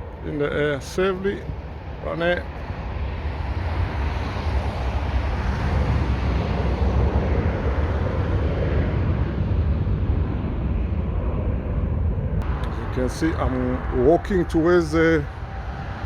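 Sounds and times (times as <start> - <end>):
jet engine rumble: 0.0 - 16.0
wind buffeting microphone: 0.0 - 16.0.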